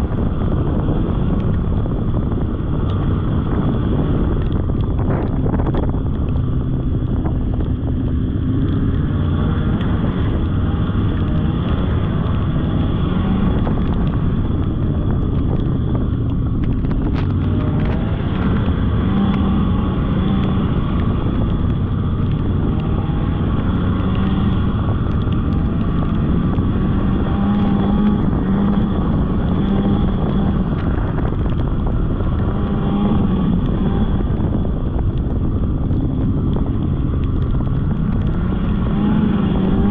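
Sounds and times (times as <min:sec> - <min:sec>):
snowmobile engine running: 0:00.0 - 0:39.9
wind on the microphone: 0:00.0 - 0:39.9.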